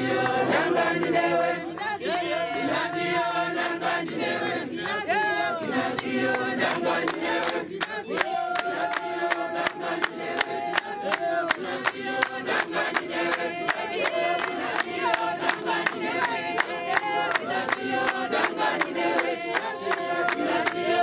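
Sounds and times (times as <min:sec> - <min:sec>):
hands clapping in time: 0:00.0 - 0:02.8, 0:03.6 - 0:21.0
congregation singing a hymn: 0:00.0 - 0:21.0.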